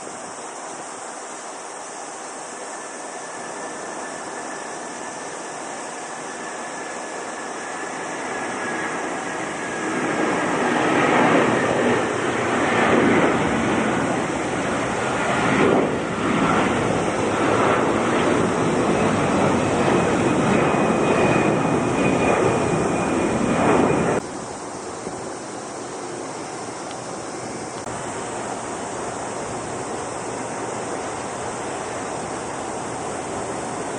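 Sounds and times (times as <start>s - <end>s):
jet airliner taking off: 0.0s - 33.9s.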